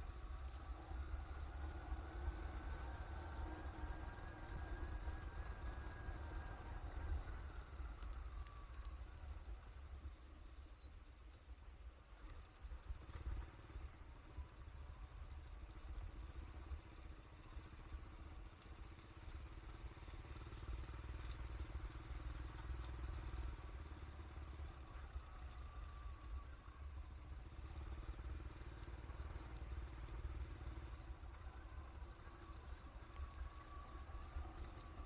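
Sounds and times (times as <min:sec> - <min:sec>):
faint engine hum: 0:00.0 - 0:35.0
vehicle rumble: 0:00.0 - 0:35.0.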